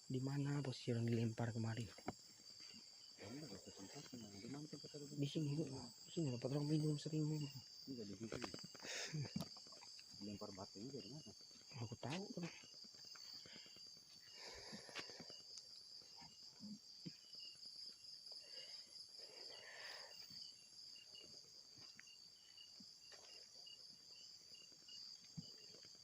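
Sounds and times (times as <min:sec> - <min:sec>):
cricket chirping: 0:00.0 - 0:26.0
crickets buzzing: 0:00.0 - 0:26.0.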